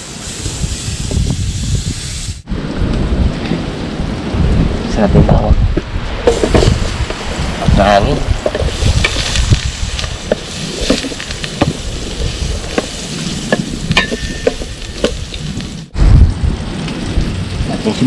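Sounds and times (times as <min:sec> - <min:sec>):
low rumble: 0:00.7 - 0:17.9.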